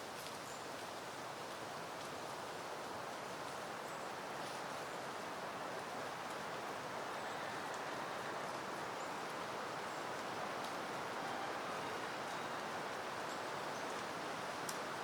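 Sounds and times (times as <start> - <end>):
wind rustling through foliage: 0.0 - 15.0.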